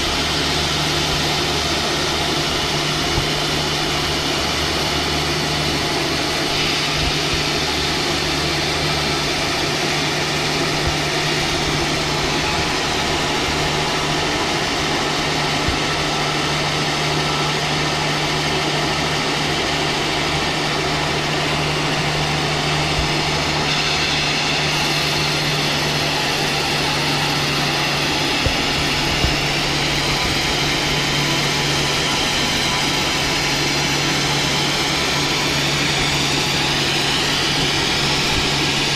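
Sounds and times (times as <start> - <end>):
motor drone: 0.0 - 38.9
sawmill saw cutting logs: 0.0 - 38.9.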